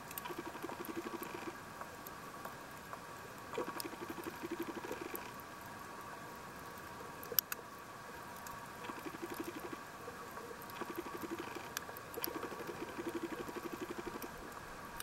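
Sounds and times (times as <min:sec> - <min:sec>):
steady underwater hum: 0:00.0 - 0:15.0.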